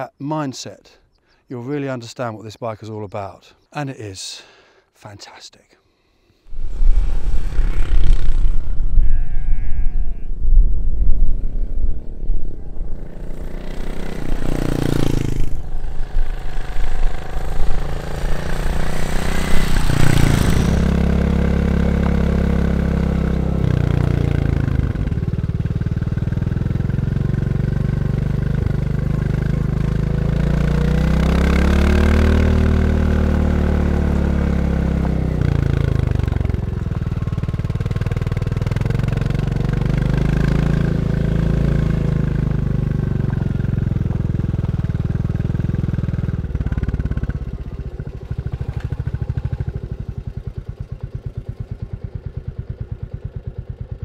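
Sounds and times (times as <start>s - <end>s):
motorcycle engine: 6.5s - 54.0s.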